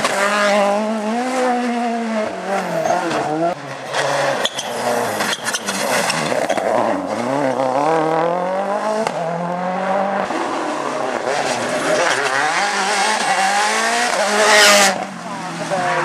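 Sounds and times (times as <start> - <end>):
rally car accelerating: 0.0 - 16.0
rally car revving: 0.0 - 16.0.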